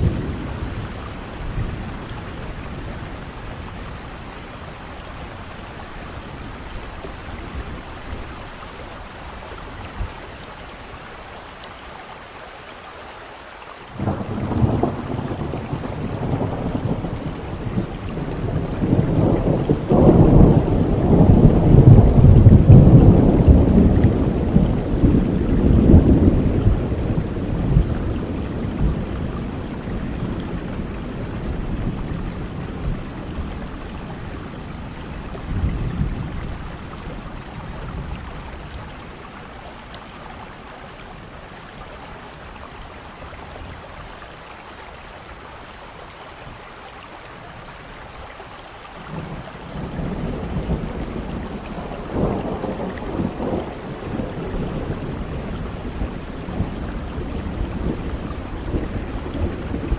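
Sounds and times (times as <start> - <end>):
thunder rumbling: 0.0 - 10.6, 14.0 - 41.5, 49.0 - 59.9
steady rain: 0.0 - 59.9.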